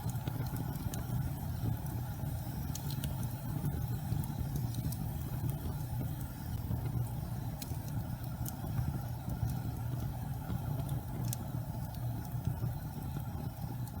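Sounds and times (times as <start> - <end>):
gas fireplace flames rumbling: 0.0 - 14.0.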